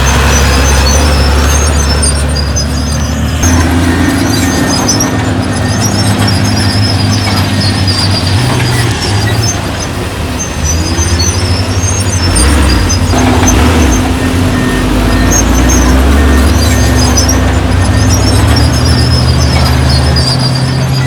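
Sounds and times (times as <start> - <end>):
heavy diesel engines running: 0.0 - 21.0.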